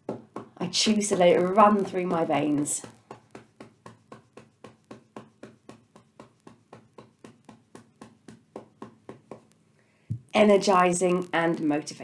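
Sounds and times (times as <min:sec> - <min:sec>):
fingertips tapping through sweater: 0:00.0 - 0:10.4.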